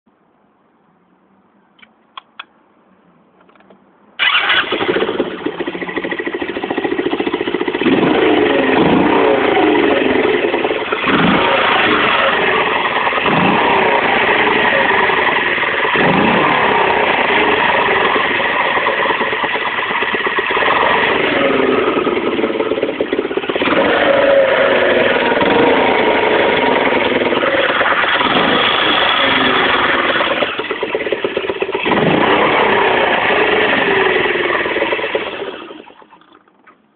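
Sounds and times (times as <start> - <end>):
two-stroke moped engine revving: 4.2 - 36.5.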